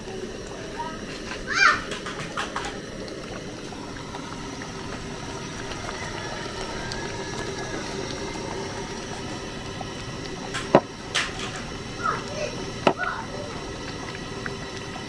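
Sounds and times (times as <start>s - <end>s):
stew boiling in pot: 0.0s - 15.0s.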